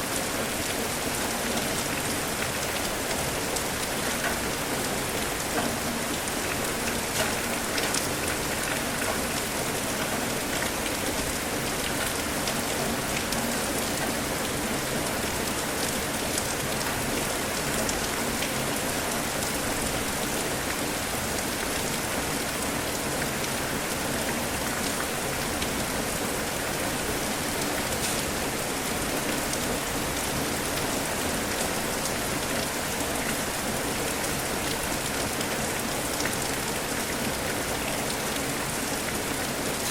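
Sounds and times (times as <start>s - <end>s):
steady rain hiss: 0.0s - 39.9s
raindrops ticking on surface: 1.5s - 23.6s, 24.2s - 39.6s.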